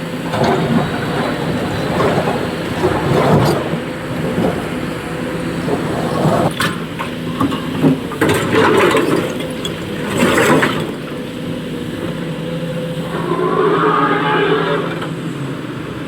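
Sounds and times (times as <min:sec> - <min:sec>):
diesel excavator engine running: 0:00.0 - 0:16.0.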